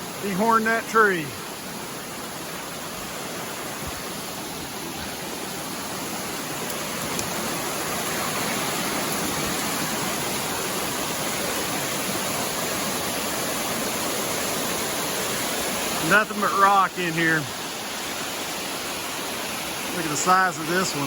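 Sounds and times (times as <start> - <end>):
creek water rushing over rocks: 0.0 - 21.0.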